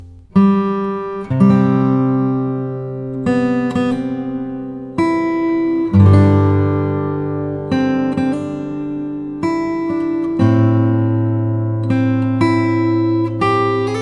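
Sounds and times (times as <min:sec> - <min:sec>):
acoustic guitar chords strummed: 0:00.0 - 0:14.0.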